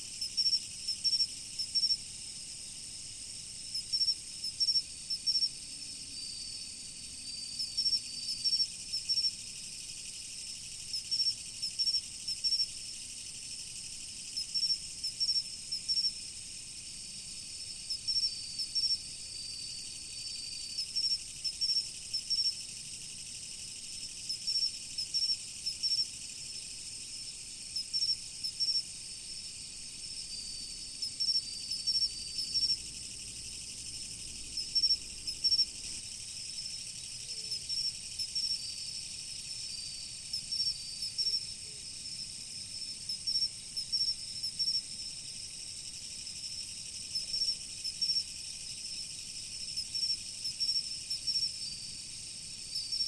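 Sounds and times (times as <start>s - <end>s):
cricket chirping: 0.0s - 53.0s
cricket trill: 0.0s - 53.0s
crickets ringing: 0.2s - 53.0s.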